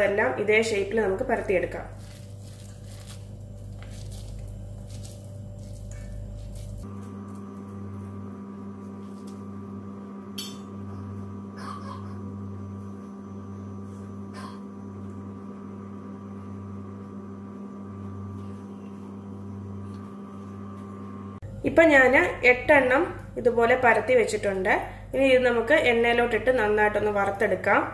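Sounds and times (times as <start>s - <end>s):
steady electrical hum: 0.0s - 27.9s.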